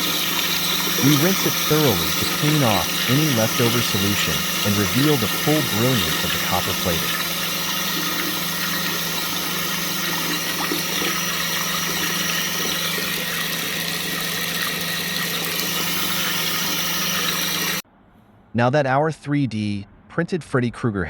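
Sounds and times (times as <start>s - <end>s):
water running: 0.0s - 17.8s.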